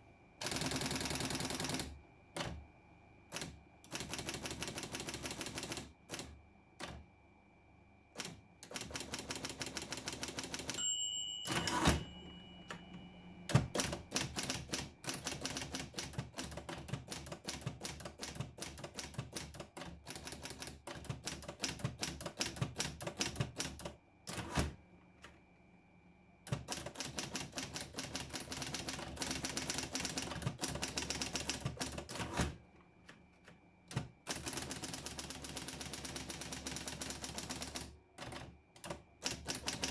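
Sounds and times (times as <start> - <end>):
typewriter typing: 0.4 - 2.6, 3.3 - 7.0, 8.2 - 10.8, 11.5 - 12.1, 13.5 - 24.8, 26.5 - 32.6, 33.9 - 39.9.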